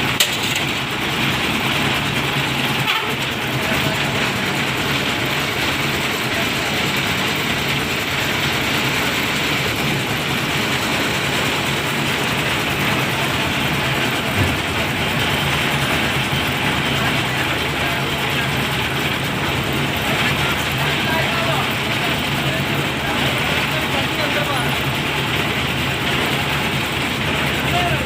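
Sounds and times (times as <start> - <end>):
concrete mixer clattering: 0.0 - 28.0.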